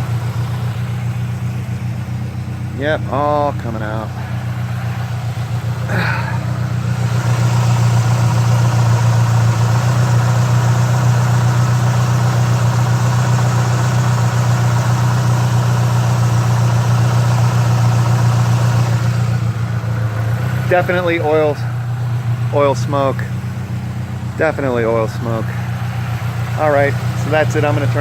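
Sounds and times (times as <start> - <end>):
car engine idling rough: 0.0 - 28.0.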